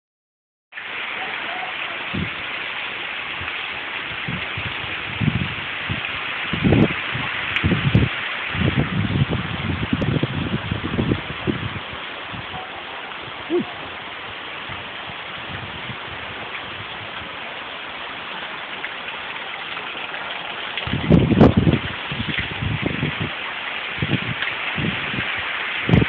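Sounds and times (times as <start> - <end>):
heavy rain: 0.7 - 26.0.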